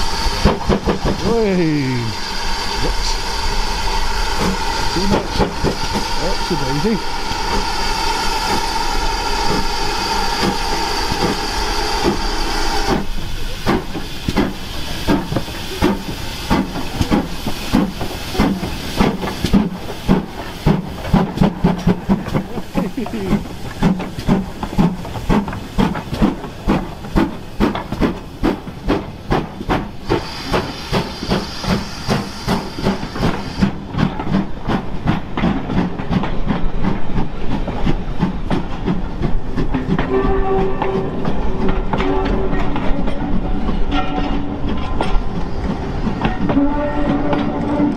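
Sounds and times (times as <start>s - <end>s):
steam locomotive exhaust chuffs: 0.0s - 47.9s.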